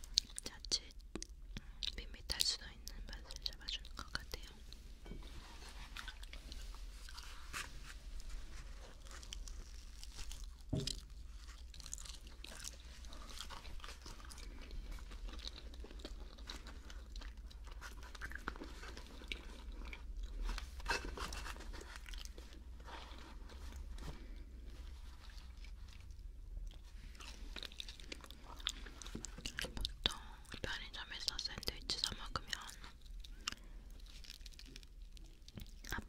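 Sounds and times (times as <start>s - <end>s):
close chewing: 0.0s - 2.0s, 5.7s - 30.6s, 31.3s - 36.0s.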